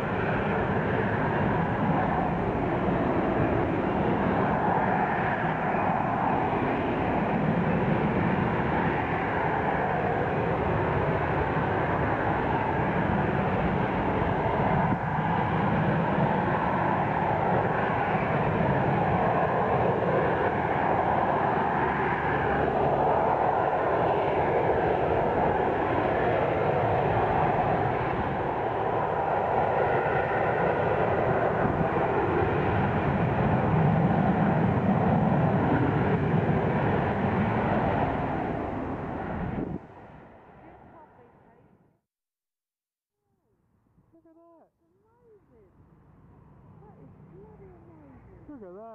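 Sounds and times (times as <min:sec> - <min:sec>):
jet engine roaring: 0:00.0 - 0:41.0.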